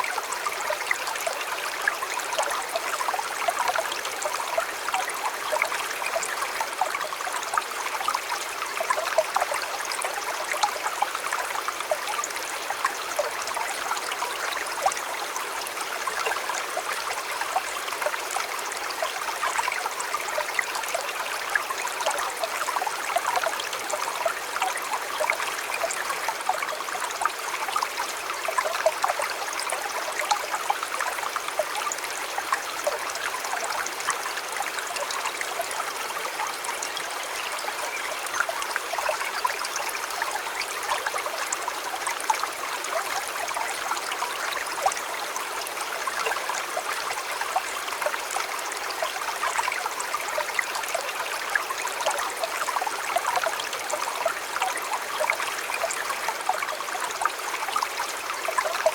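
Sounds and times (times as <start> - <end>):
stream flowing and babbling: 0.0 - 58.9.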